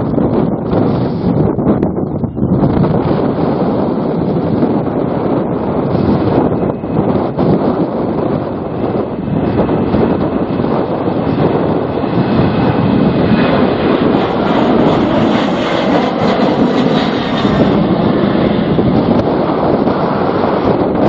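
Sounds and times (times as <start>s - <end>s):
aircraft engines rumbling: 0.0s - 21.0s
gusty wind buffeting microphone: 0.0s - 21.0s.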